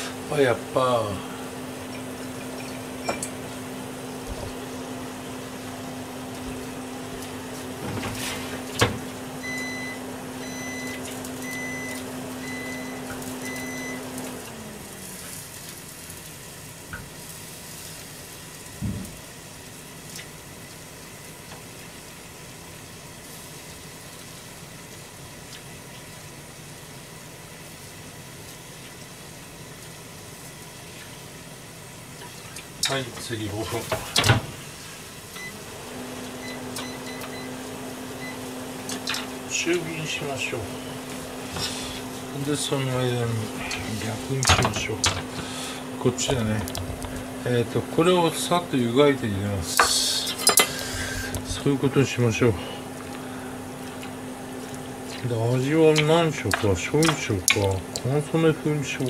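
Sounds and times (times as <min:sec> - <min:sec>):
grill humming: 0:00.0 - 0:59.0.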